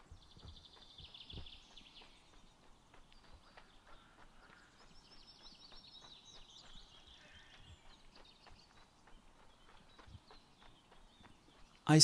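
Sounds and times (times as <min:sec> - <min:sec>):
footsteps on a path: 0:00.0 - 0:11.8
songbird chirping: 0:00.0 - 0:12.0.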